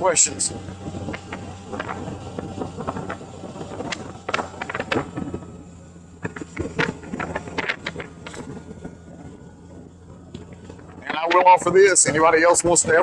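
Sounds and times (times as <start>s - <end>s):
motorcycle engine hum: 0.0s - 13.0s
wind crackling on microphone: 0.0s - 13.0s.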